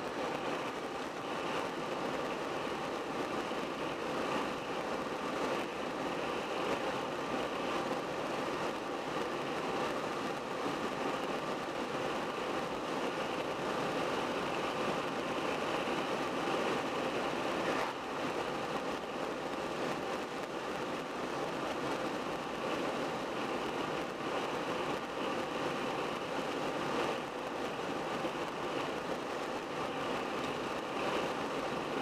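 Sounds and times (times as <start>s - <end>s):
wind noise: 0.0s - 32.0s.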